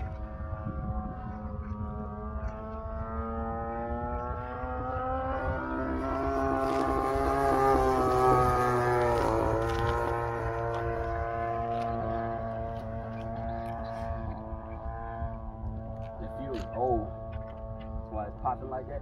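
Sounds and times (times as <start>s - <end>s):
model airplane engine: 0.0s - 19.0s.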